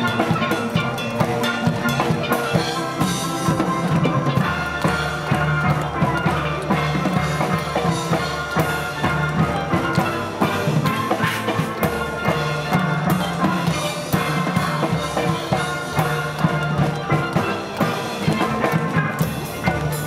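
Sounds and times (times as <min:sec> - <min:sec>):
drums keeping steady beat: 0:00.0 - 0:20.0
steelpans playing melody: 0:00.0 - 0:20.0.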